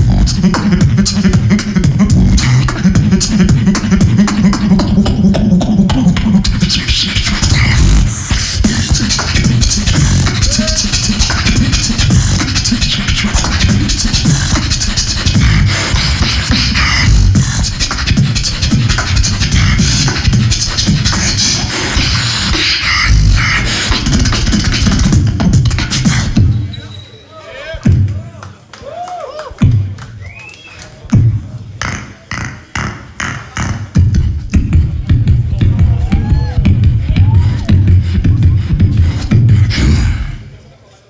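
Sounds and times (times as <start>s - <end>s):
fast beatboxing: 0.0s - 26.7s, 27.8s - 28.3s, 29.5s - 40.6s.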